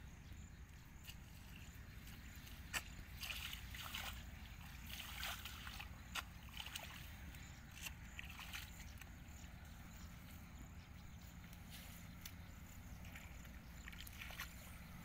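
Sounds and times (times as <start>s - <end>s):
bare feet squelching in mud: 1.0s - 9.8s, 11.3s - 15.0s.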